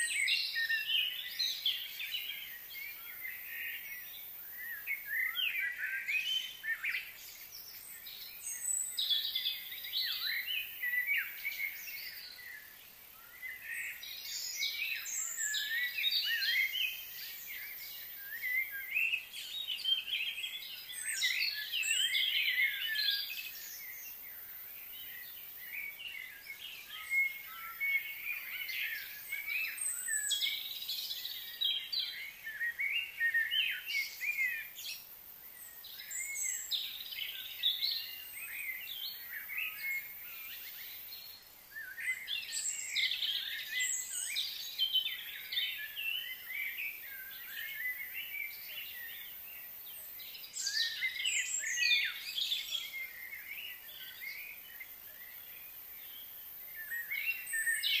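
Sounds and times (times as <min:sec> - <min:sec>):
birds chirping and singing: 0:00.0 - 0:58.0
faint high hiss: 0:00.0 - 0:58.0.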